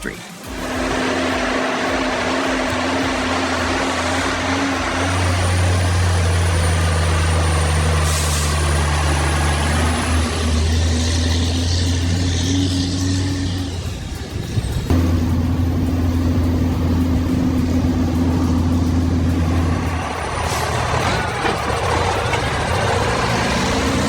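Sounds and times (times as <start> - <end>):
diesel engine running: 0.0 - 24.0
air hiss: 0.2 - 24.0.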